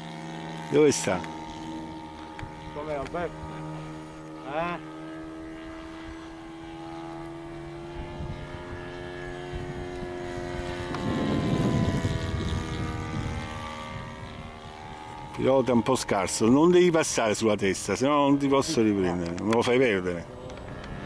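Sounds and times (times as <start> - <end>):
model airplane motor droning: 0.0 - 21.0.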